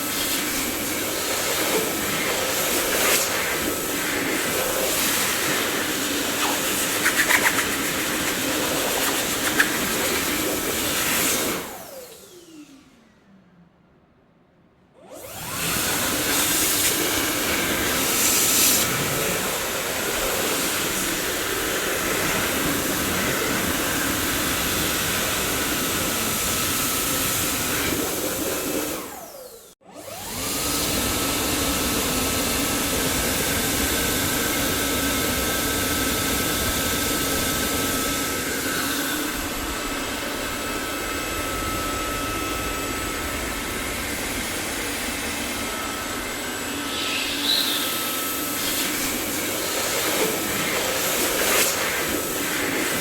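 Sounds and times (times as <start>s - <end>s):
vacuum cleaner running: 0.0s - 13.3s, 15.0s - 53.0s.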